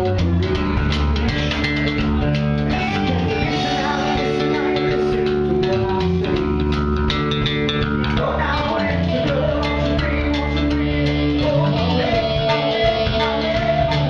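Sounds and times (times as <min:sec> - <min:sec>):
bass guitar: 0:00.0 - 0:14.0
distorted electric guitar chords: 0:00.0 - 0:14.0
drums: 0:00.0 - 0:14.0.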